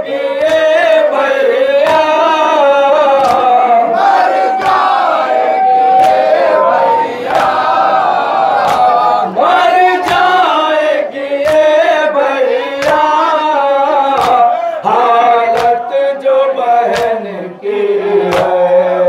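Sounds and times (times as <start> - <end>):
men chanting a lament: 0.0 - 19.0.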